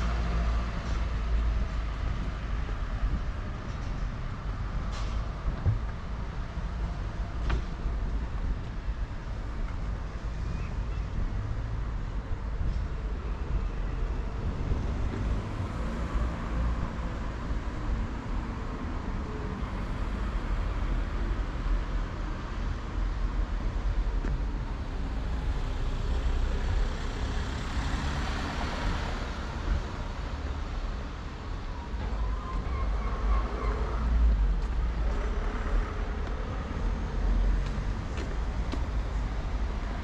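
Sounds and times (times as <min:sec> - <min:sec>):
road traffic passing: 0:00.0 - 0:40.0.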